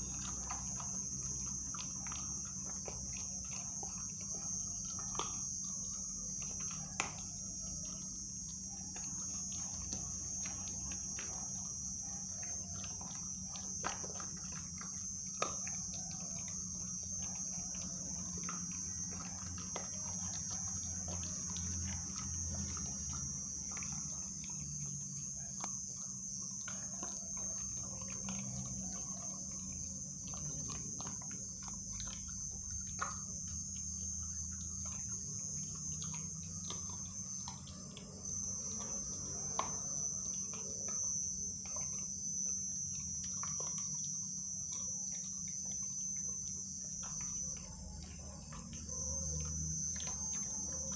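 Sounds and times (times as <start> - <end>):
crickets chirring: 0.0 - 50.9
puppy chewing food: 0.0 - 50.9.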